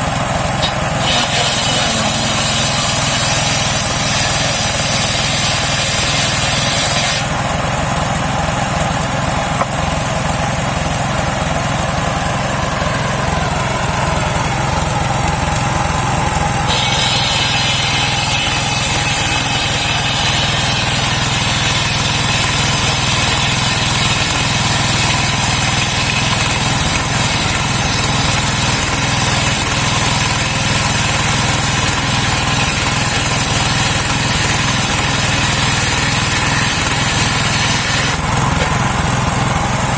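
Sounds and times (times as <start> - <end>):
saw blade whining: 0.0 - 39.9.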